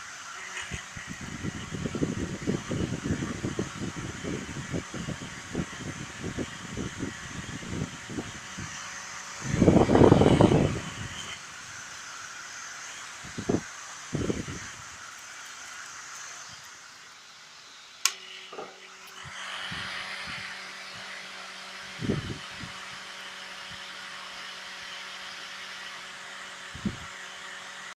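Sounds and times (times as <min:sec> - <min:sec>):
heater blower fan humming: 0:00.0 - 0:28.0.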